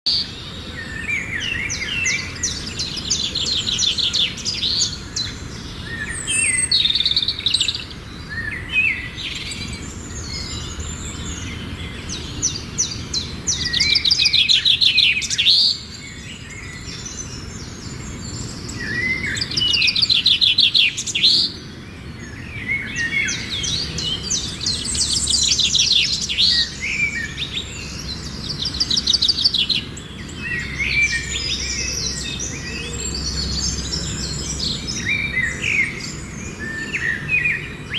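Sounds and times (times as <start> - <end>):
small birds singing: 0.0 - 37.9.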